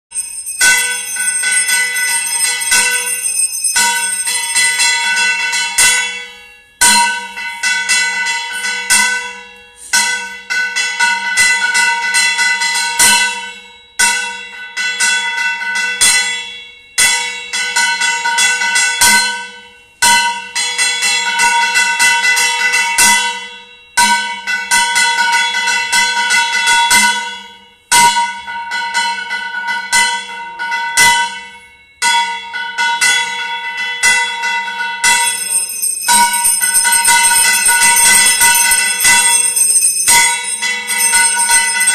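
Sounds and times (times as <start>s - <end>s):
temple bells ringing: 0.1s - 41.9s.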